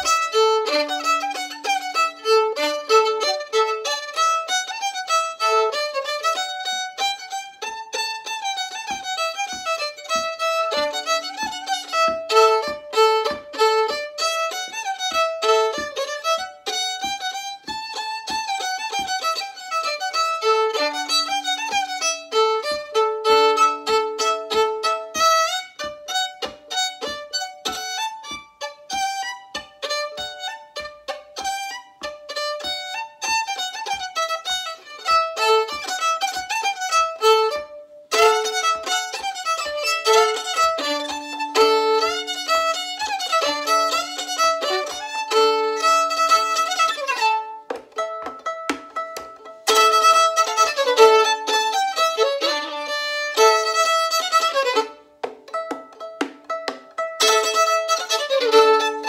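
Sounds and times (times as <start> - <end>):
fiddle playing a fast reel: 0.0 - 59.0
steady tapping beat: 0.0 - 59.0.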